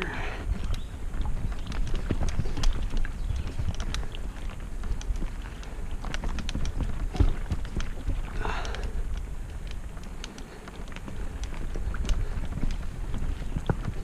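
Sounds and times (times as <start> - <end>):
bike clicks and rattles: 0.0 - 14.0
bike tyres rumbling on dirt: 0.0 - 14.0.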